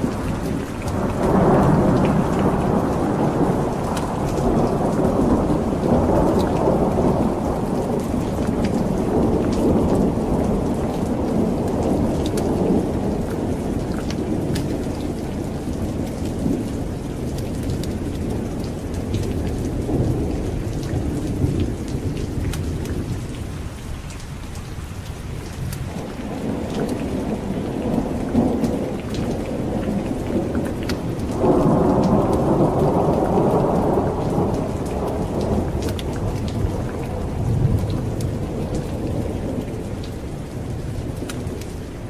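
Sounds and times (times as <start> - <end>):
thunder rumbling: 0.0 - 23.8, 25.3 - 42.0
steady rain: 0.0 - 42.0.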